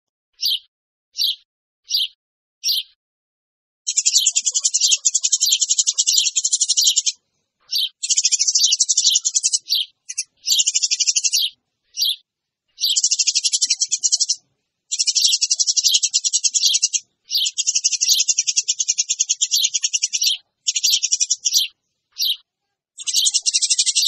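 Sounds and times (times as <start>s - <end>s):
sparrow chirping chatter: 0.4s - 3.0s, 3.9s - 24.0s.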